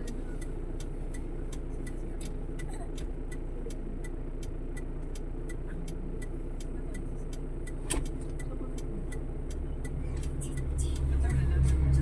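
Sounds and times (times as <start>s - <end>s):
car engine running: 0.0s - 12.0s
sharp even ticking: 0.0s - 12.0s.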